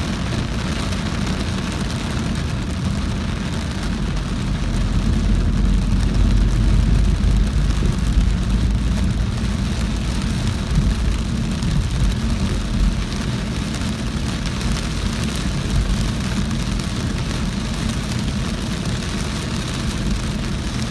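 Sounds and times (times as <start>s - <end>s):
engine and road rumble: 0.0s - 20.9s
rain pattering on car: 0.0s - 20.9s.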